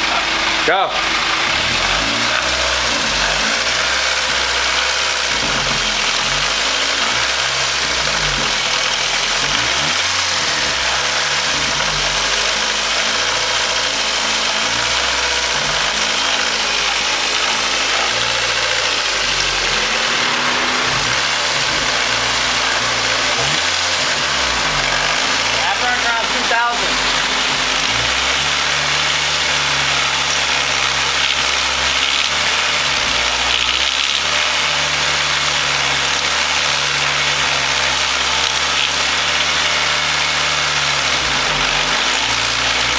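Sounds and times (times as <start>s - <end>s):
car engine running: 0.0s - 42.9s
knocking and grinding in engine: 0.0s - 42.9s.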